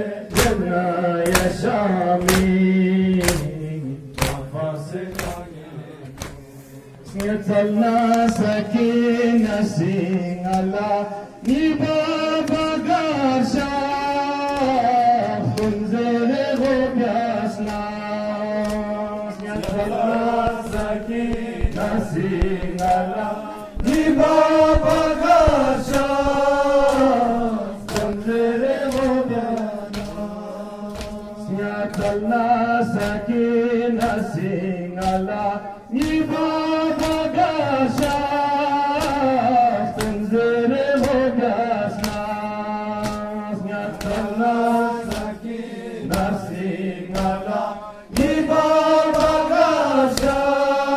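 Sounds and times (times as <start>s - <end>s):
men chanting in unison: 0.0s - 50.9s
hands slapping chests: 0.3s - 7.4s, 9.4s - 10.8s, 11.4s - 15.9s, 16.5s - 32.3s, 32.9s - 34.3s, 35.0s - 50.9s.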